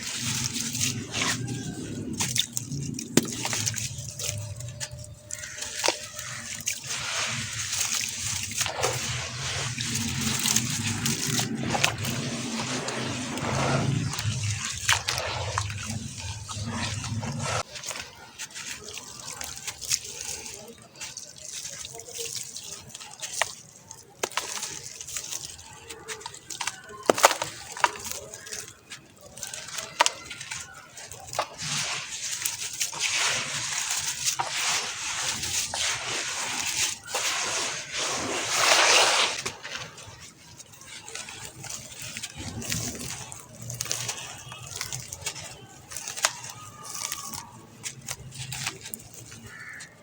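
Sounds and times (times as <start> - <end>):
sharp clicks and drips: 0.0 - 38.8, 39.4 - 50.0
gritty crackling and fizzing: 0.0 - 50.0
small splashes: 0.0 - 50.0.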